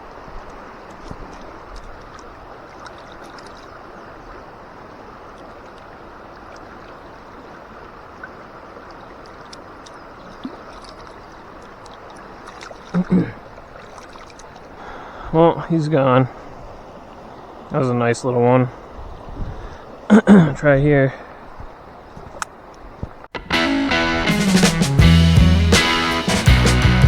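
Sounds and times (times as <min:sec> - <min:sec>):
river water flowing over rocks: 0:00.0 - 0:23.3.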